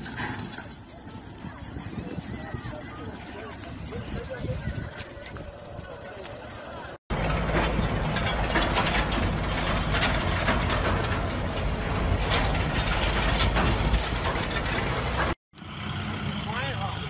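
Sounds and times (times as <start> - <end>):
rattling and clattering: 0.0 - 5.4, 7.1 - 15.4
low engine rumble: 0.0 - 17.0.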